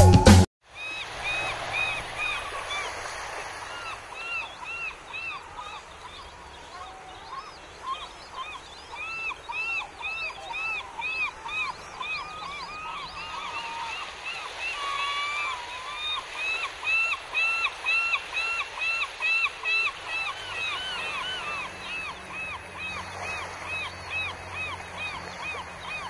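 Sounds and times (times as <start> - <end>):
chorus of birds calling: 0.8 - 26.0.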